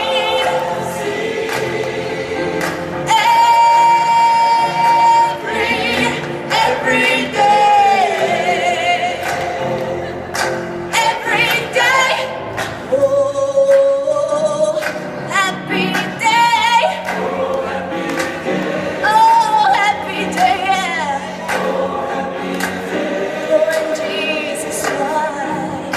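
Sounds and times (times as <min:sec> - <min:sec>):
musical accompaniment: 0:00.0 - 0:25.9
voices singing: 0:00.0 - 0:25.9.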